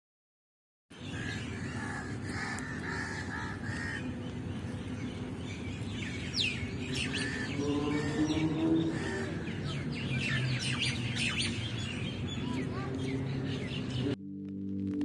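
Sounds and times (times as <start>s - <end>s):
birds chirping and calling: 0.9s - 14.2s.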